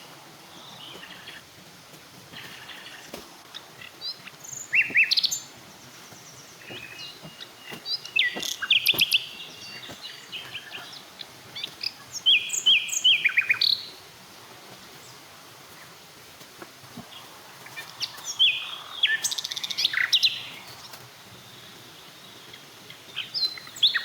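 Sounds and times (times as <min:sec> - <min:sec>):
birds chirping and trilling: 0:00.0 - 0:01.4, 0:02.3 - 0:14.0, 0:17.0 - 0:24.0
faint background hiss: 0:00.0 - 0:24.0.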